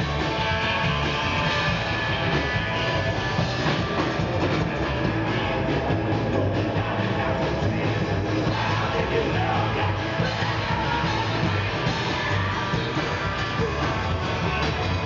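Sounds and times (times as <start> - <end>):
drum kit: 0.0 - 15.0
electric guitar: 0.0 - 15.0
upright bass: 0.0 - 15.0.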